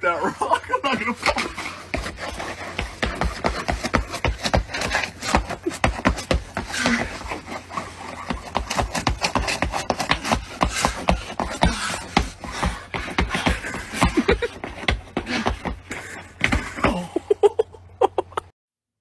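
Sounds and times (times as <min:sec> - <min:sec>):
shoes scuffing on icy pavement: 0:01.0 - 0:16.8.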